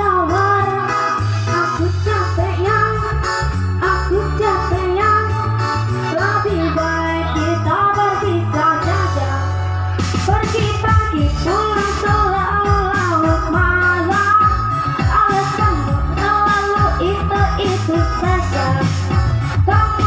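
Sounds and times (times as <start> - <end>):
girl singing: 0.0 - 3.2, 3.8 - 9.5, 10.3 - 20.0
backing music with beat and bass: 0.0 - 20.0.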